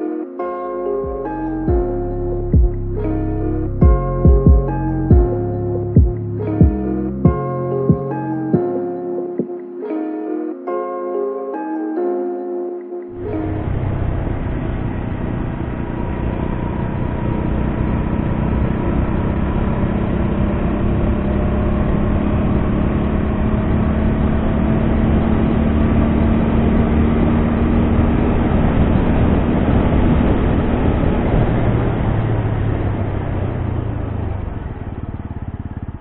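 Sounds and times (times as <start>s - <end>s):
motorcycle engine cruising: 0.8s - 9.6s, 13.1s - 36.0s.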